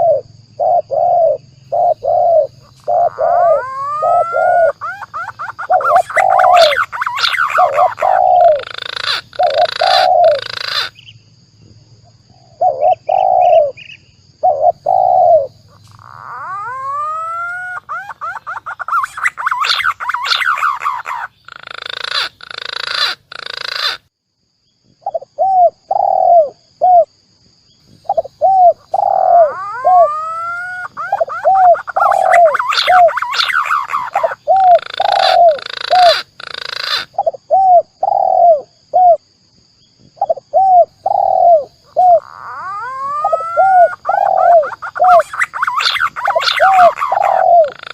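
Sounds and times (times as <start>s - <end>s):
dove cooing: 0.0s - 10.9s, 12.4s - 13.8s, 14.4s - 24.0s, 25.0s - 27.1s, 27.9s - 39.2s, 40.2s - 47.9s
rising whistled bird calls: 0.0s - 11.0s, 12.7s - 24.0s, 28.0s - 38.6s, 40.2s - 47.9s
harsh bird calling: 0.0s - 11.1s, 12.4s - 24.0s, 27.9s - 39.2s, 40.2s - 47.9s.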